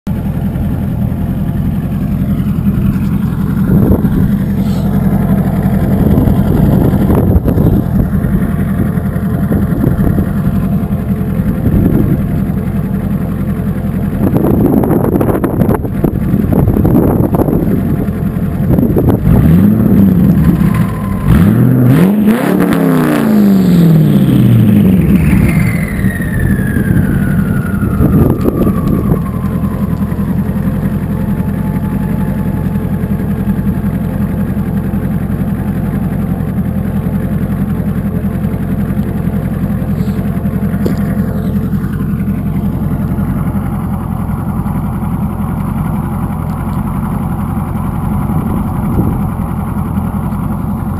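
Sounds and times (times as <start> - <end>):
car engine idling and revving: 0.1 - 50.9
turbo whine: 0.1 - 50.9.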